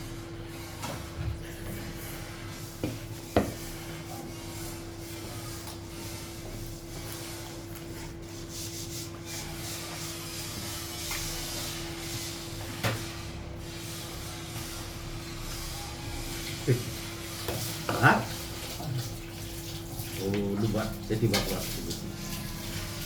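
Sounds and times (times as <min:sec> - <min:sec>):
rubbing and handling at a plate: 0:00.0 - 0:23.0.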